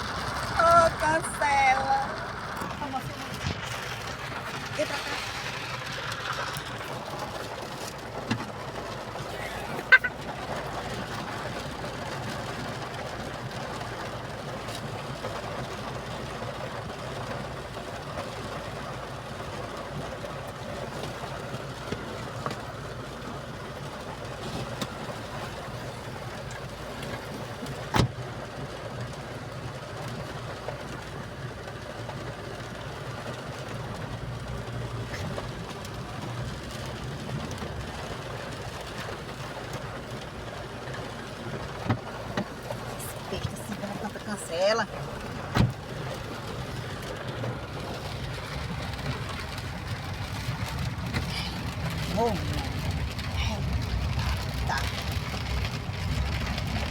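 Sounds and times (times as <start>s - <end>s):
vehicle engine running at low revs: 0.0s - 56.9s.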